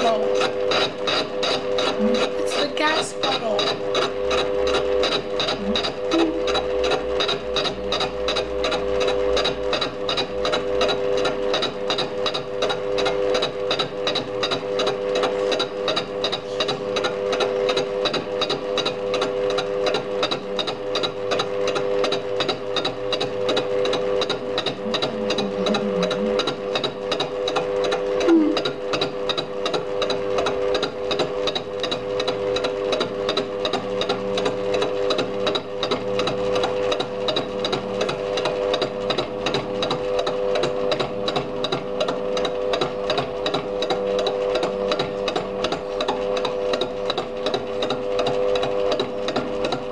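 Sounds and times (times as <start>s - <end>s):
fly cutter ticking on metal: 0.0s - 49.9s
lathe humming: 0.0s - 49.9s.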